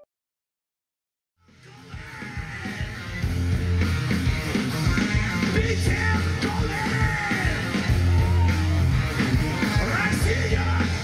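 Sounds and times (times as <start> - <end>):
loud rock music with singing: 1.4 - 11.0
heavy bass line: 1.6 - 11.0.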